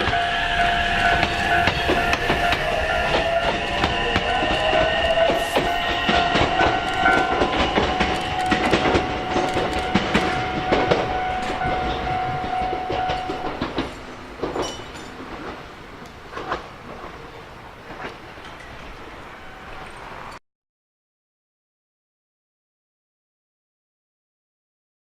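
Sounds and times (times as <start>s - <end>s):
electric train whine: 0.0s - 20.4s
wheels clicking over rail joints: 0.0s - 20.4s.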